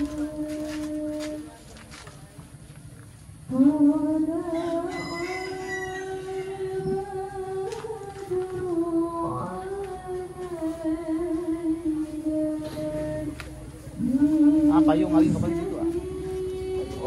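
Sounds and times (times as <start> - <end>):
woman singing slow melody: 0.0 - 1.8, 3.4 - 17.0.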